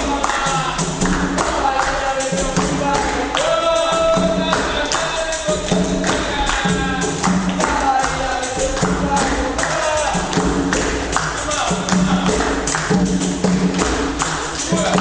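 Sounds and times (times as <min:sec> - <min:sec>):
hand percussion beat: 0:00.0 - 0:15.0
tambourine jingles: 0:00.0 - 0:15.0
voices singing: 0:00.0 - 0:15.0.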